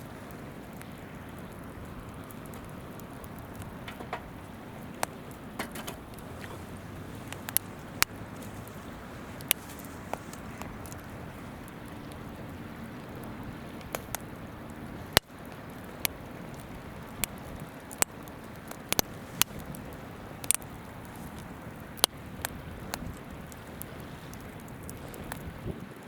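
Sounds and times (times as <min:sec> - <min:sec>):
campfire crackling and popping: 0:00.0 - 0:26.0
river rushing: 0:00.0 - 0:26.0.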